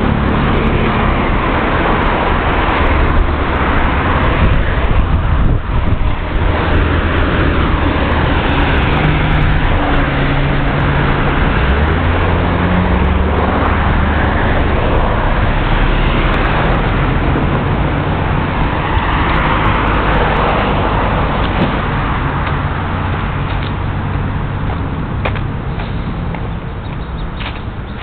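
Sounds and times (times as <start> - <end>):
heavy vehicle engine hum: 0.0 - 28.0
tyre noise of passing cars: 0.0 - 28.0.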